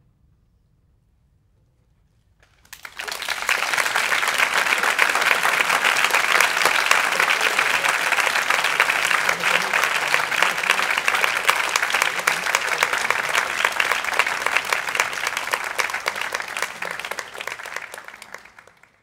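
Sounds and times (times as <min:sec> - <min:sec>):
audience applauding: 0:02.5 - 0:19.0.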